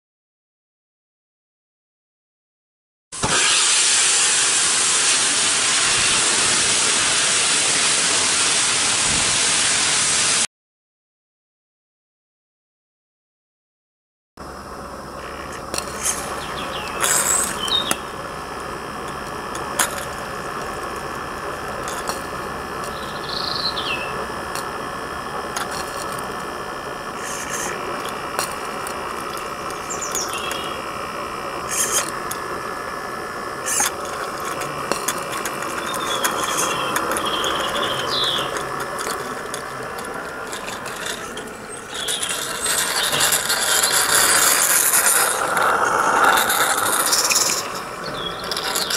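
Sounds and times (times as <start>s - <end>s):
steam locomotive hissing: 3.2s - 10.5s, 14.5s - 48.9s.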